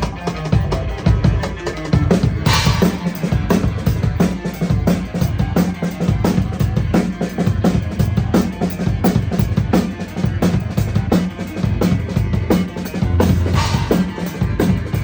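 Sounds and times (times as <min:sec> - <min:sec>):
drum kit fast beat: 0:00.0 - 0:15.0
heavy bass line: 0:00.0 - 0:15.0
live band playing: 0:00.0 - 0:15.0.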